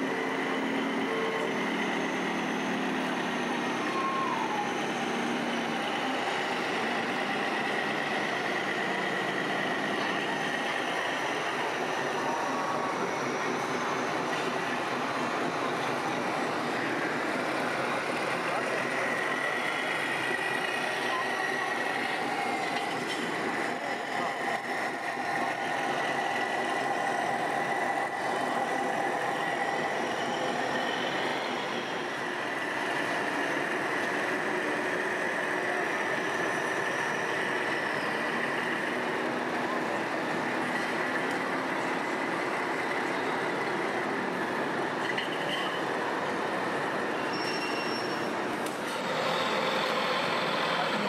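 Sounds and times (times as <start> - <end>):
murmur of voices: 0.0 - 51.0
rc truck engines running: 0.0 - 51.0.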